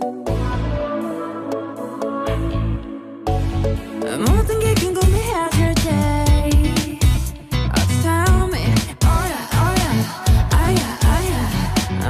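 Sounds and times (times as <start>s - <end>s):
pop music with sung vocals: 0.0s - 12.0s.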